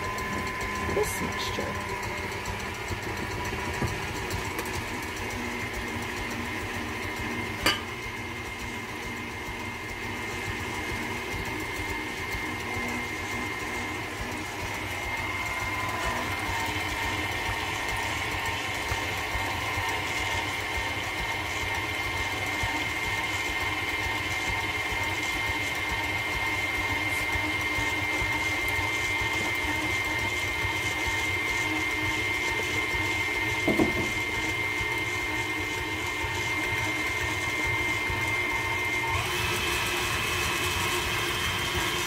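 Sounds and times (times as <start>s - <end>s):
stand mixer motor whine: 0.0s - 42.0s.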